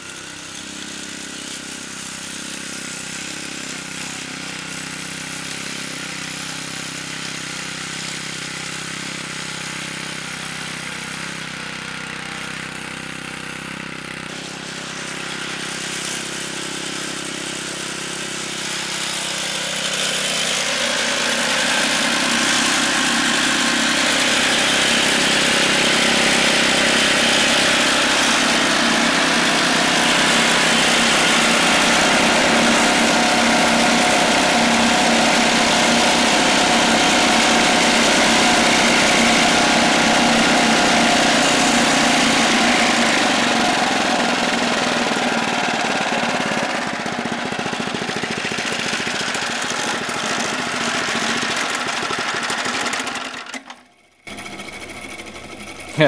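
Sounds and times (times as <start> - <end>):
lawnmower engine cutting grass: 0.0 - 56.0.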